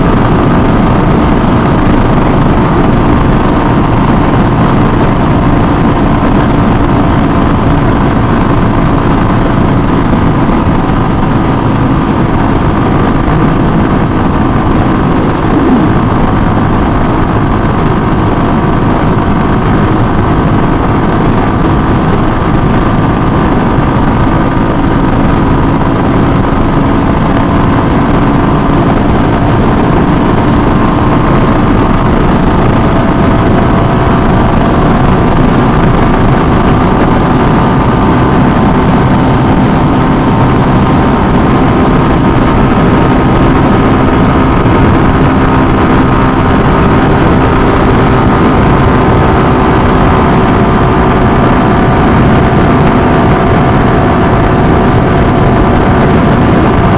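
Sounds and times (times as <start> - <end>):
motorcycle engine cruising: 0.0 - 56.9
wind rush on microphone: 0.0 - 56.9.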